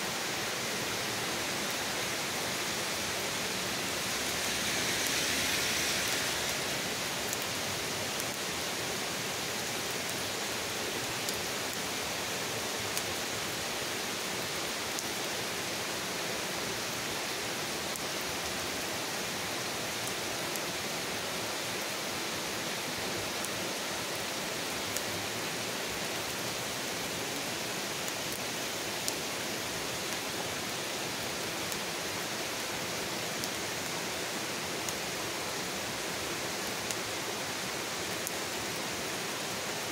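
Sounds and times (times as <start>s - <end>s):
steady rain on trees: 0.0s - 39.9s.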